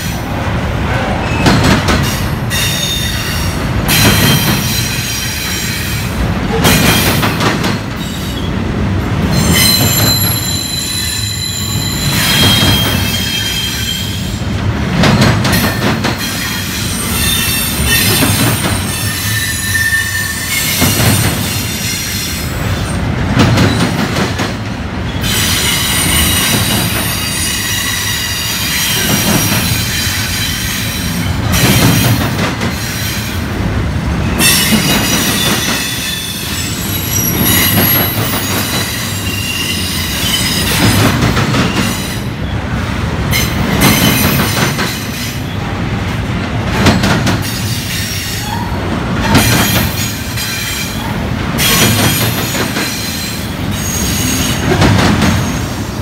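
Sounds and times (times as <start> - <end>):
train rumble: 0.0 - 56.0
train wheels squealing on rails: 1.0 - 8.6, 9.2 - 24.2, 25.0 - 33.5, 34.2 - 45.8, 46.8 - 56.0
clatter of train wheels: 1.3 - 8.5, 9.1 - 33.5, 34.2 - 42.4, 43.2 - 45.5, 46.4 - 55.9.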